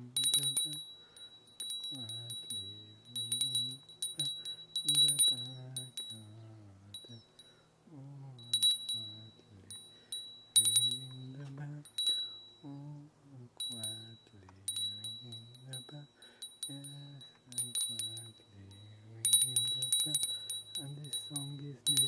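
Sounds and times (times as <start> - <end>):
man singing low: 0.0 - 0.8, 1.9 - 7.3, 7.9 - 9.8, 10.6 - 12.0, 12.6 - 22.0
small bell ringing: 0.0 - 7.7, 8.3 - 13.0, 13.6 - 22.0.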